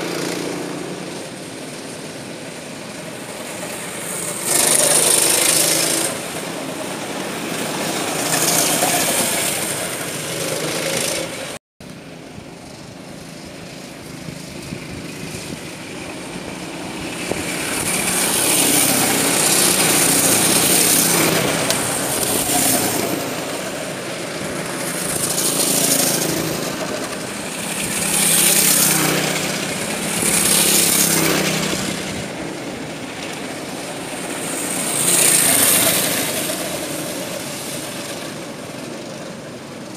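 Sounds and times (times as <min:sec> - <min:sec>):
go-karts passing by: 0:00.0 - 0:39.9.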